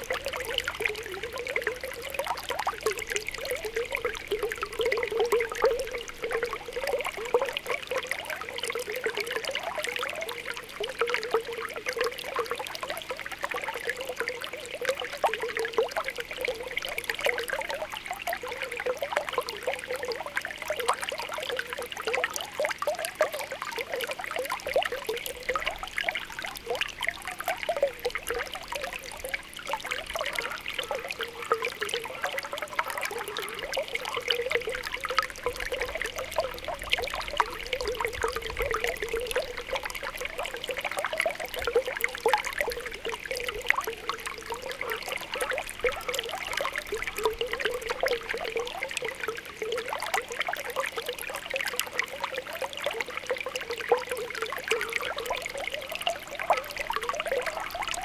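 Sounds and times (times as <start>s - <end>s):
spring water bubbling: 0.0s - 58.0s
water trickling: 0.0s - 58.0s.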